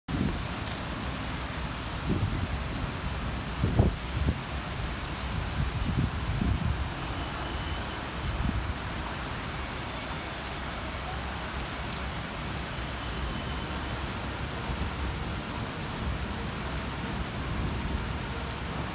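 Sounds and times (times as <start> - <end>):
heavy rain on trees and pavement: 0.1 - 18.9.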